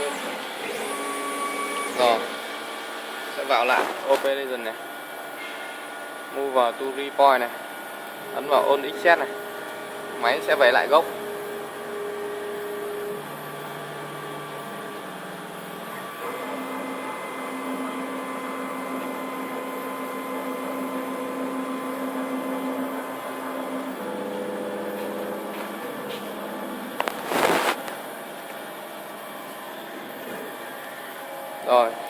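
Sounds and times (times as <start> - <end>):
machine motor whine: 0.0 - 6.3, 7.7 - 32.0.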